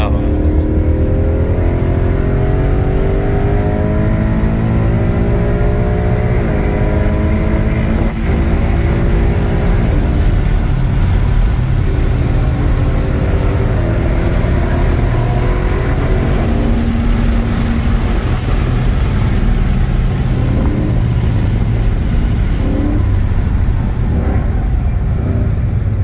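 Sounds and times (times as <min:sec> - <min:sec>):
car engine at speed: 0:00.0 - 0:26.0
wind and road hiss: 0:00.0 - 0:26.0.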